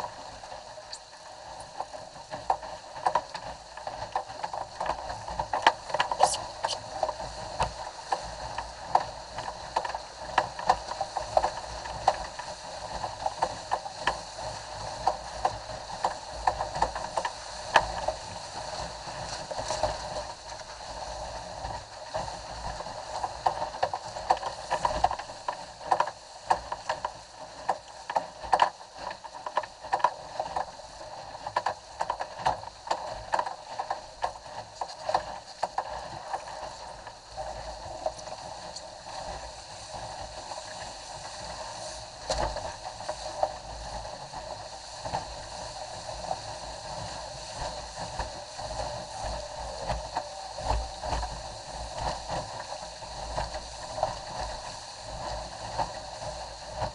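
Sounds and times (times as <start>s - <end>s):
water rushing along boat hull: 0.0s - 56.9s
waves slapping against boat: 0.0s - 56.9s.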